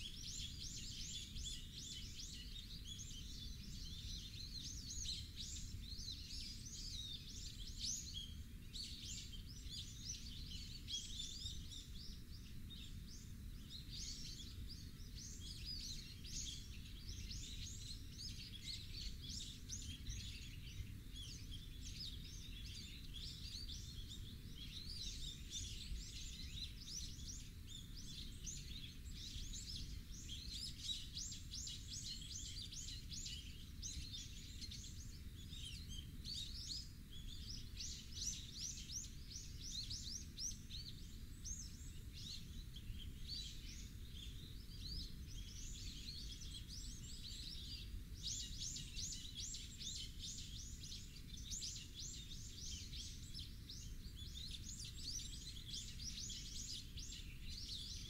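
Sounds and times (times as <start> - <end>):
birds chirping in high trills: 0.0 - 58.0.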